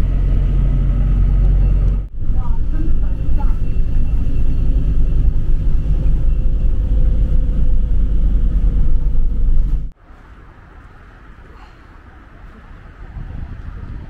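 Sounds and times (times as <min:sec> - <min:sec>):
bus engine rumbling inside cabin: 0:00.0 - 0:14.0
quiet outdoor background: 0:00.0 - 0:14.0.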